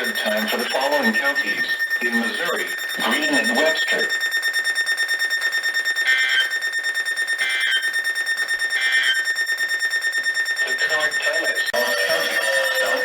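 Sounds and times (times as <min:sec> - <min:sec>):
pulsing high alarm tone: 0:00.0 - 0:13.0
raspy digital data bursts: 0:00.0 - 0:13.0.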